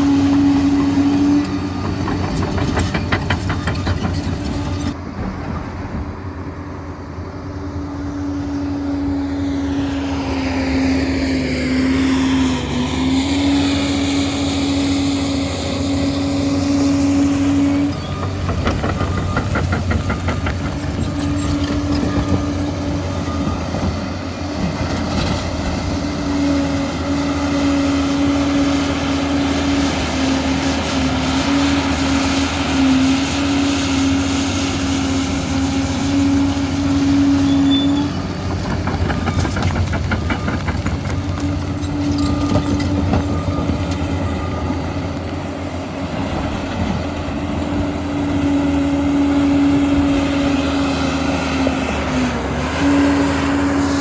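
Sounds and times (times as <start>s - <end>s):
constant machine whine: 0.0s - 54.0s
crawler dozer engine running: 0.0s - 54.0s.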